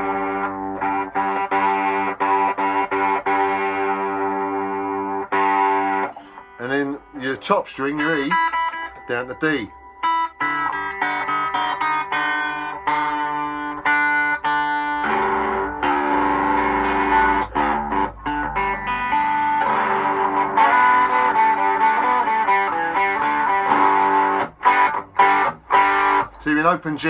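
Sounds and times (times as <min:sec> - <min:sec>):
electric guitar notes plucked: 0:00.0 - 0:26.8
electric guitar strummed chords: 0:00.0 - 0:27.0.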